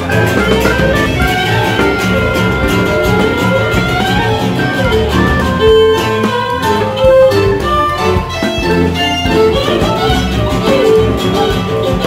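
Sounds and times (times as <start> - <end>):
accordion: 0.0 - 12.0
acoustic guitar: 0.0 - 12.0
double bass: 0.0 - 12.0
violin: 0.0 - 12.0.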